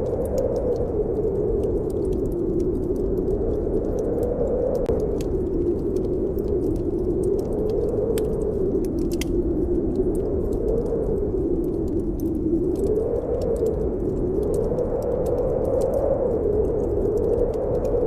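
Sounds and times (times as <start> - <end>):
wind howling: 0.0 - 18.0
wood fire crackling: 0.0 - 18.0.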